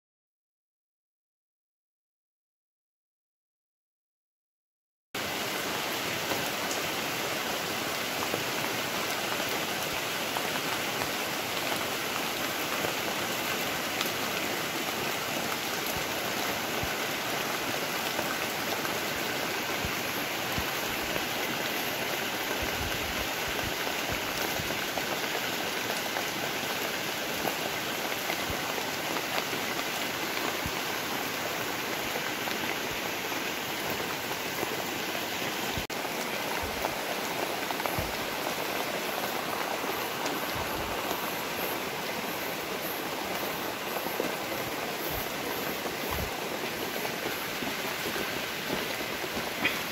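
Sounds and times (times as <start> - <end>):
rain on broad leaves: 5.2 - 49.9.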